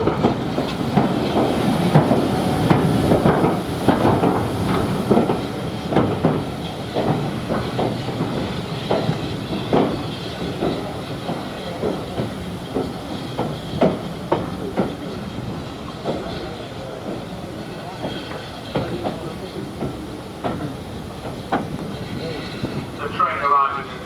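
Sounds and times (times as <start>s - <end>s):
train rumble and hiss: 0.0s - 24.0s
train wheels clicking over rail joints: 0.0s - 24.0s.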